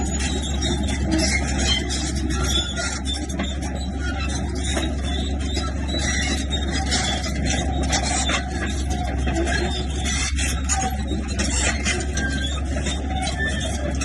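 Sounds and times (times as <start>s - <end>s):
bulldozer diesel engine: 0.0s - 14.0s.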